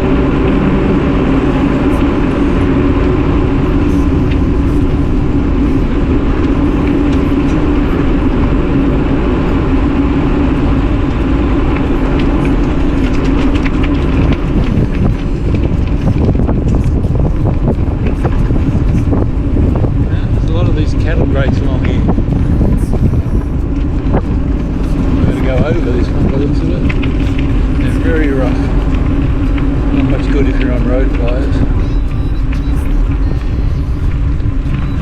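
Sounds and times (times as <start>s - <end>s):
bike tyre noise: 0.0s - 35.0s
steady low drone: 0.0s - 35.0s
wind rushing over microphone: 0.0s - 35.0s.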